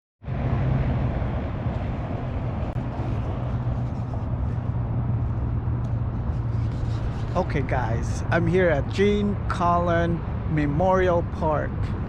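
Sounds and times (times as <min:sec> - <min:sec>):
outdoor background noise: 0:00.2 - 0:12.0
vehicle engine hum: 0:00.2 - 0:12.0.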